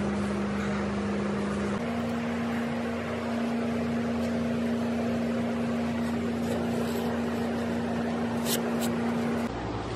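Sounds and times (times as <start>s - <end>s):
machine humming and whirring: 0.0s - 9.9s.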